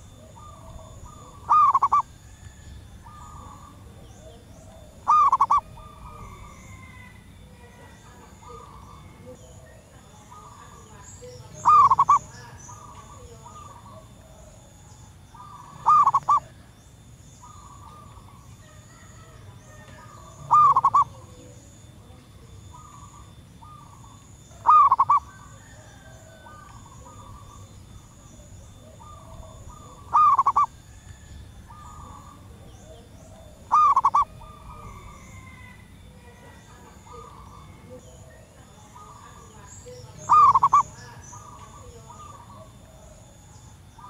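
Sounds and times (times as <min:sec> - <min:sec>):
dove cooing rolling notes: 0:00.0 - 0:44.0
faint cooing calls: 0:00.0 - 0:44.0.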